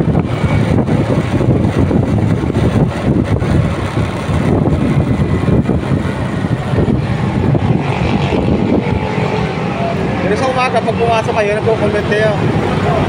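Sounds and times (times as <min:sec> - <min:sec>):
motorcycle engine road and wind noise: 0:00.0 - 0:13.0.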